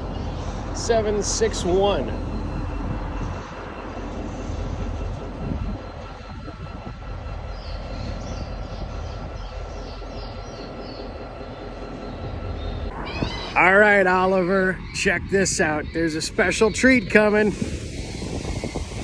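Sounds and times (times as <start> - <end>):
distant diesel locomotive rumble: 0.0 - 19.0.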